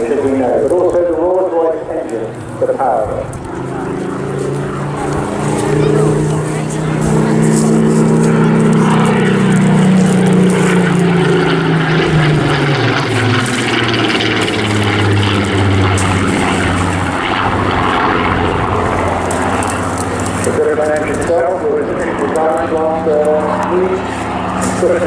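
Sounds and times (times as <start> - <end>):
propeller aircraft engine flying past: 0.0 - 25.0.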